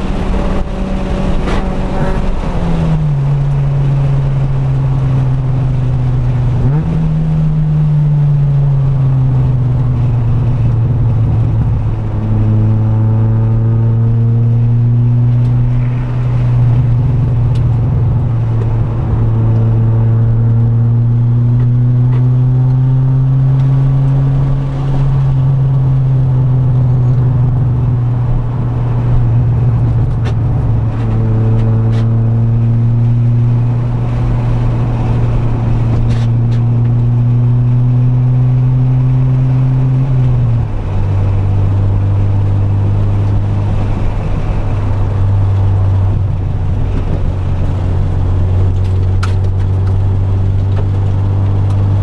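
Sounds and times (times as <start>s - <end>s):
race car engine under hard throttle: 0.0s - 52.0s.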